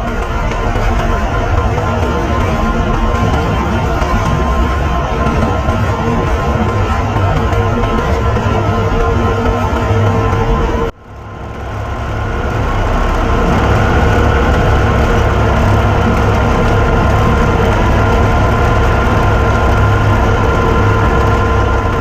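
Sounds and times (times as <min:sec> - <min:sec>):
heavy engine drone: 0:00.0 - 0:22.0
machinery whining: 0:00.0 - 0:22.0.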